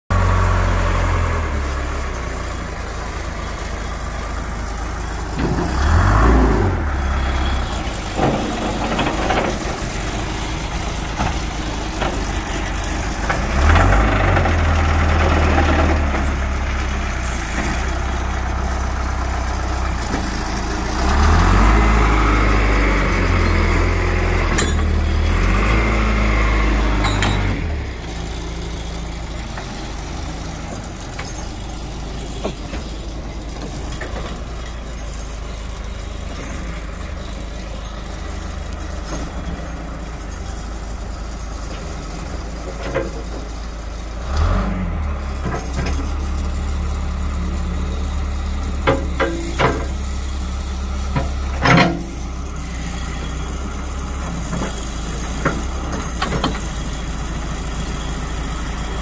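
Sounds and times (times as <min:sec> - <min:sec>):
backhoe diesel engine revving: 0:00.0 - 0:59.0.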